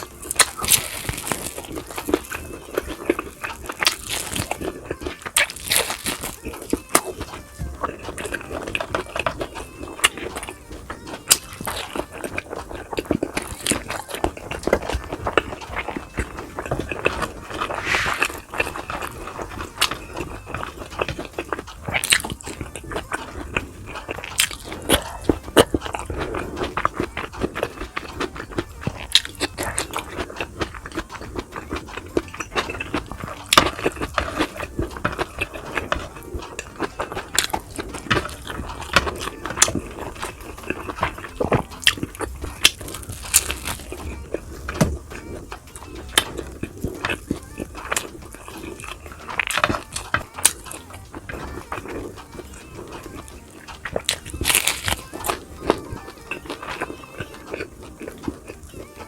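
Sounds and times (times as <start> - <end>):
person chewing and crunching: 0.0 - 59.0.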